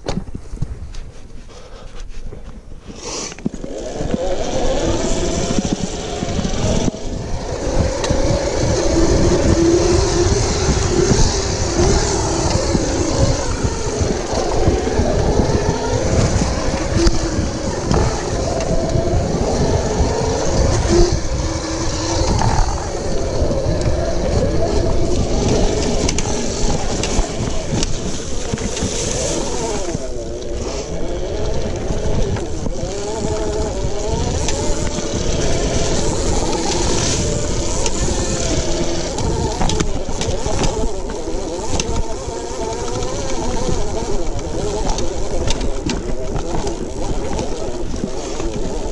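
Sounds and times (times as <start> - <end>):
wind rumble on microphone: 0.0 - 48.9
electric motor whining: 2.9 - 48.9.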